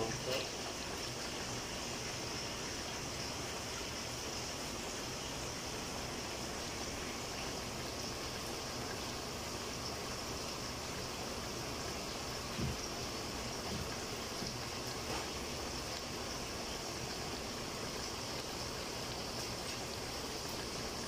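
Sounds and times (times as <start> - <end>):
stew pot hissing on stove: 0.0 - 21.0.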